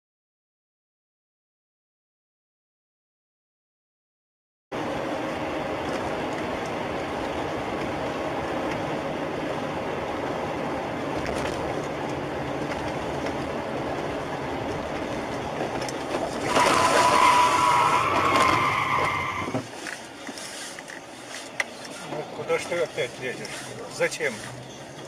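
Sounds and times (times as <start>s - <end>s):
car road and engine noise: 4.7s - 25.0s.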